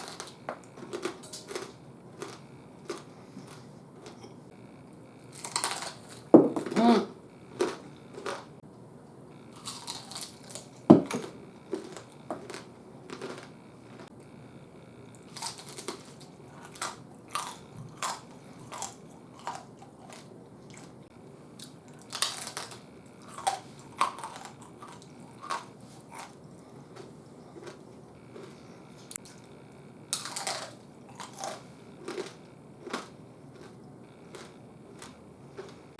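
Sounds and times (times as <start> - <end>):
crunching and chewing crispy food: 0.0 - 4.2, 4.9 - 8.5, 9.4 - 35.9.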